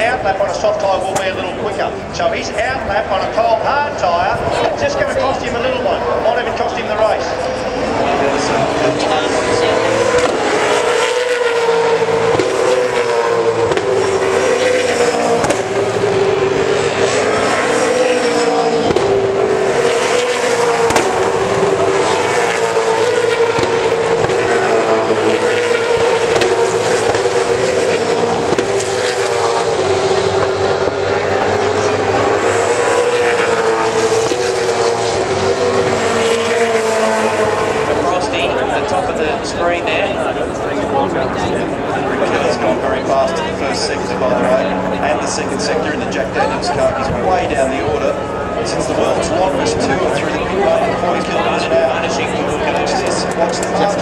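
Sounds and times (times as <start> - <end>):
race car engines at high revs: 0.0 - 54.0.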